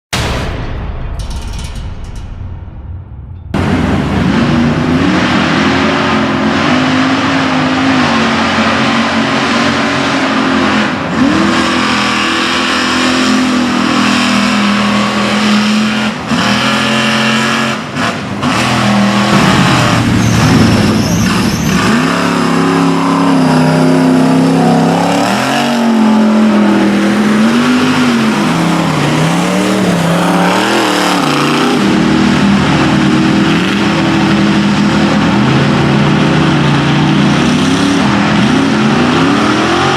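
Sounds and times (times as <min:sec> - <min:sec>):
truck engine revving hard: 0:03.6 - 0:39.9.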